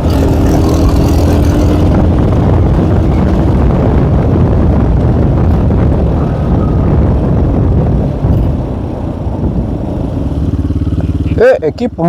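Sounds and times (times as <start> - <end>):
moped engine running: 0.0 - 12.0
wind buffeting microphone: 0.0 - 12.0.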